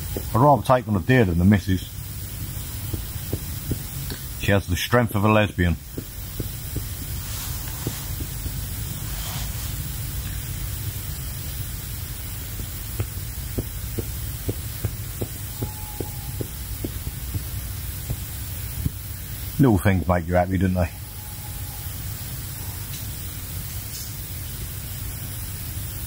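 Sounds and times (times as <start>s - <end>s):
gas stove burning: 0.0s - 26.0s.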